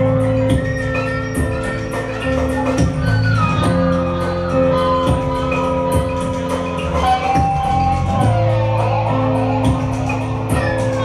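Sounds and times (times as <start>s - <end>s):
keyboard: 0.0s - 11.0s.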